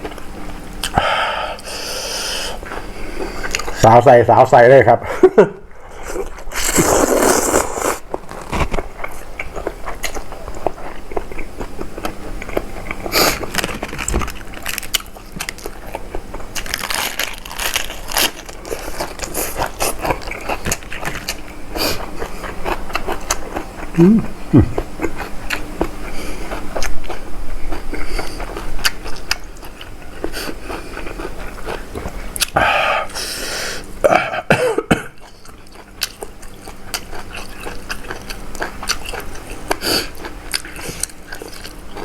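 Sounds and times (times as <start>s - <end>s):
person chewing crunchy food: 0.0s - 3.8s, 5.8s - 34.0s, 35.1s - 42.0s.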